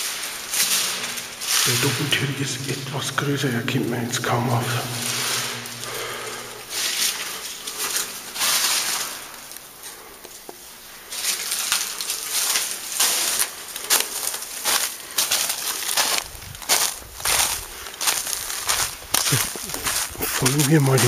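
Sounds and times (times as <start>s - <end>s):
footsteps on snow and dry leaves: 0.0s - 21.0s.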